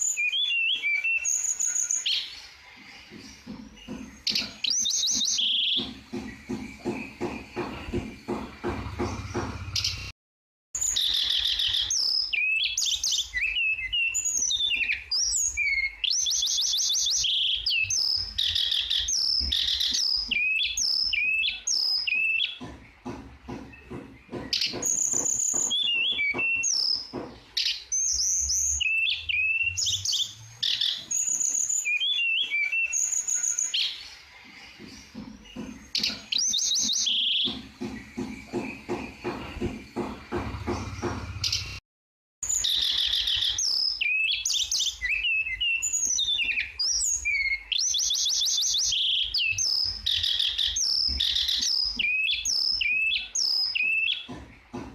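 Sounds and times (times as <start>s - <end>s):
songbird singing: 0.0s - 10.1s, 10.8s - 41.8s, 42.4s - 54.9s.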